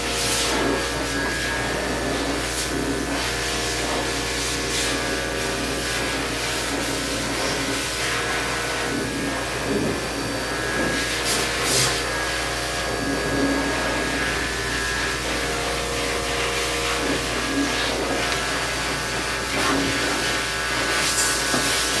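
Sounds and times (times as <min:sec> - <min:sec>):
blow dryer running: 0:00.0 - 0:22.0.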